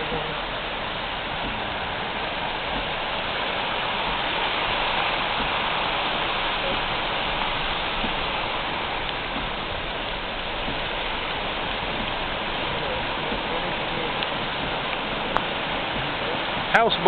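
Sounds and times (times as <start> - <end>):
flooded brook rushing: 0.0 - 17.0
rain falling: 0.0 - 17.0.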